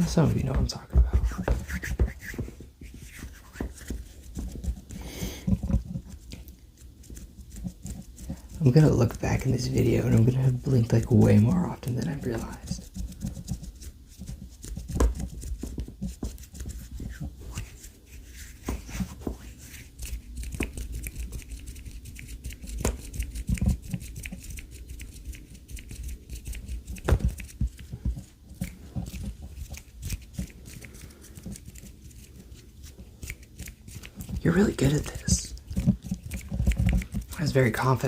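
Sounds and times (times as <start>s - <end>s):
soft crackles and clicks of hands: 0.0s - 38.0s.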